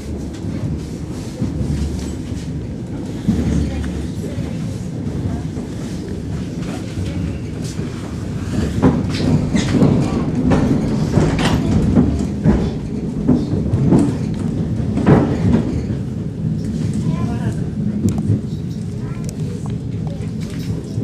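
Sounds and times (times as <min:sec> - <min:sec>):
train low rumble: 0:00.0 - 0:21.0
knocks and clanks: 0:00.2 - 0:21.0.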